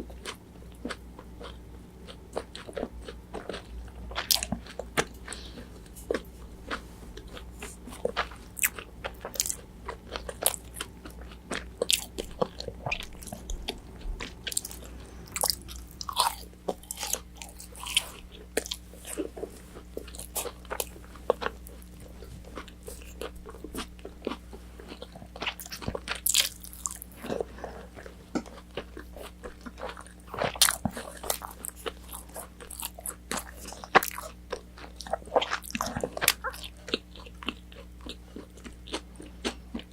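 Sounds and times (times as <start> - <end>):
crunchy chewing: 0.0 - 39.9
faint low hum: 0.0 - 39.9.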